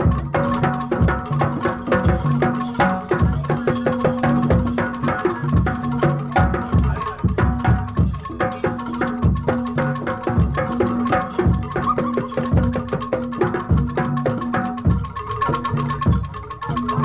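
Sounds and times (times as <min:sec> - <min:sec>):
drums and tuned gongs: 0:00.0 - 0:17.0.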